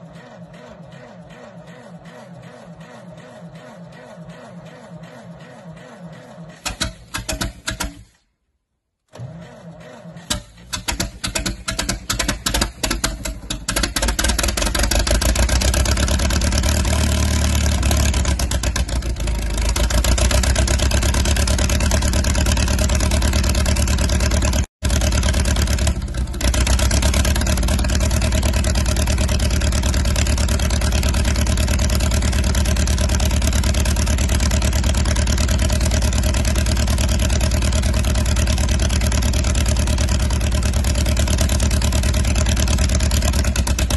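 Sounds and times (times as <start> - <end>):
dozer engine cold-starting: 0.0 - 8.2, 9.1 - 43.9.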